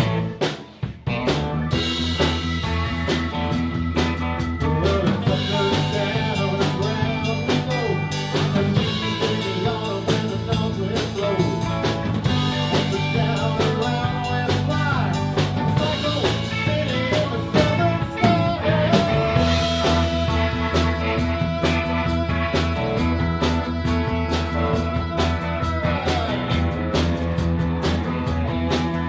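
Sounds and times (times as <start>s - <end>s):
blues rock band playing: 0.0s - 29.0s
drum kit beat: 0.0s - 29.0s.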